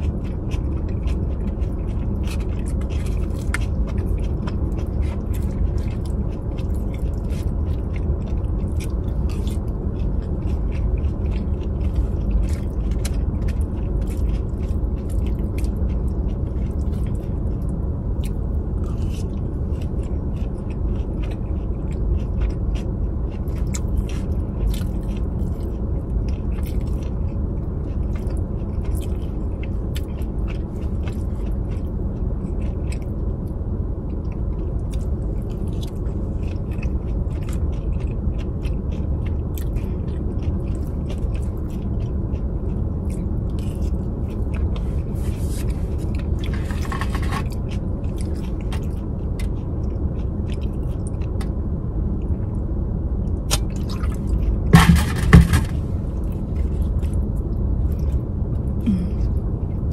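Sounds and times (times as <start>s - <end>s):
close chewing and biting: 0.0s - 59.9s
steady low rumble: 0.0s - 59.9s.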